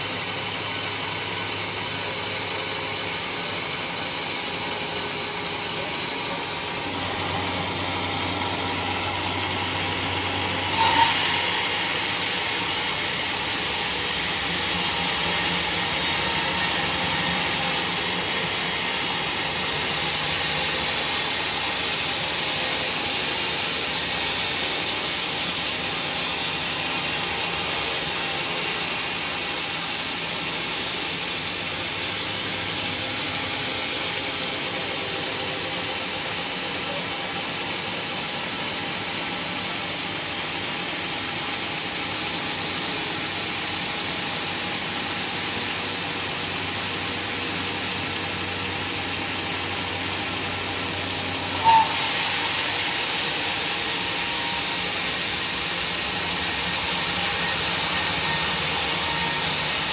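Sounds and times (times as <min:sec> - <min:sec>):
woodworking machinery running: 0:00.0 - 0:59.9.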